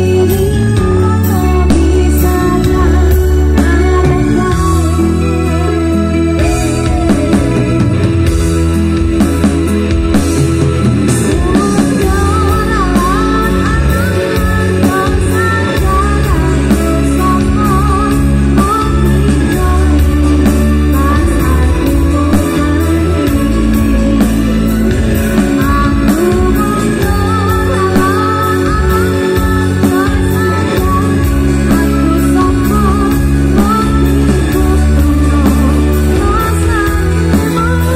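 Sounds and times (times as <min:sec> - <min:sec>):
live band music over pa: 0:00.0 - 0:37.9.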